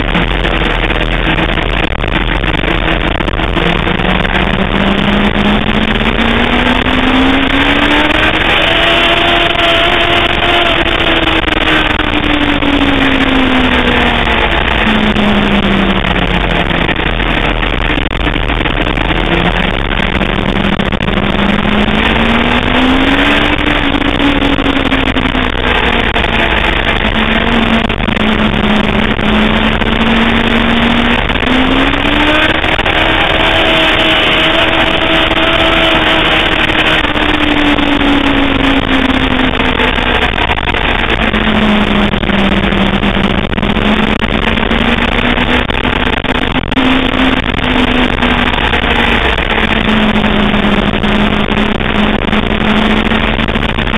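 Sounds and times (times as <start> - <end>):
motorcycle engine revving: 0.0 - 53.9
steady rushing wind noise: 0.0 - 53.9.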